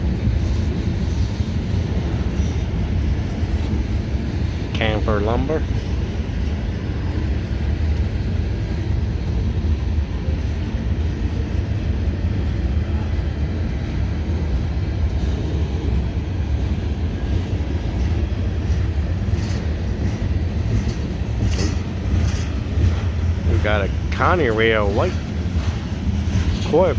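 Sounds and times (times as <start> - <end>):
freight train cars rolling past: 0.0 - 26.9.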